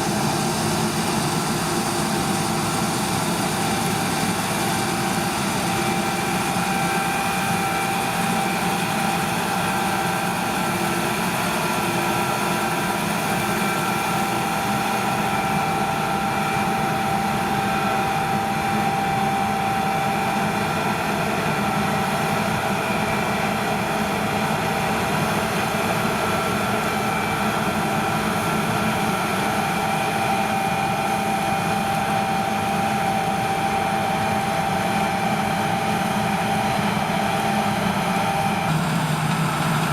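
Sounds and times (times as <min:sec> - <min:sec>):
harvest machinery engine running: 0:00.0 - 0:39.9
steady machine whine: 0:00.0 - 0:39.9.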